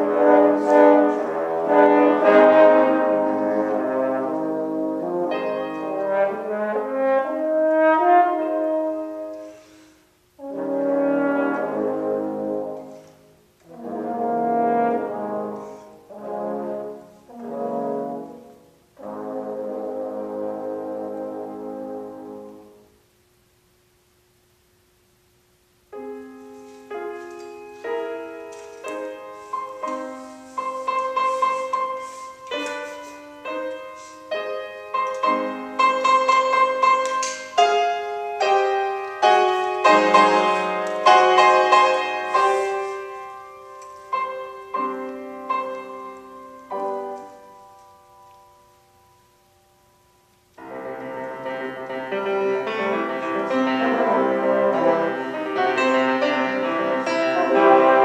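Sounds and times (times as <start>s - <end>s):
grand piano playing chords: 0.0s - 23.1s, 25.7s - 58.0s
french horns: 0.0s - 23.8s, 25.6s - 58.0s.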